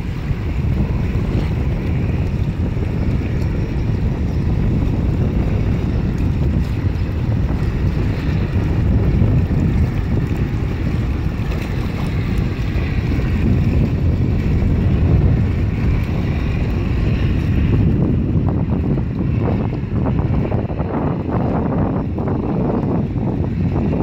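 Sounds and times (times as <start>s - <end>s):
ship engine running: 0.0s - 24.0s
water washing along hull: 0.0s - 24.0s
wind buffeting microphone: 0.0s - 24.0s.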